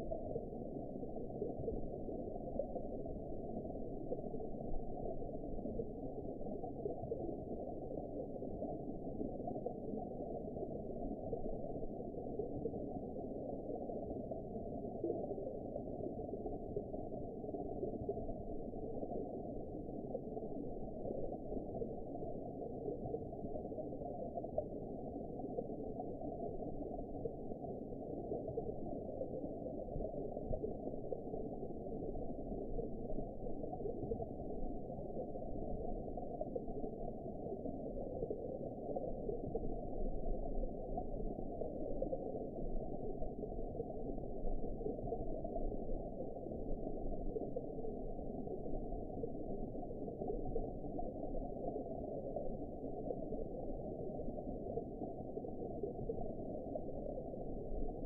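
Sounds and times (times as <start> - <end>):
underwater rushing noise: 0.0 - 58.0.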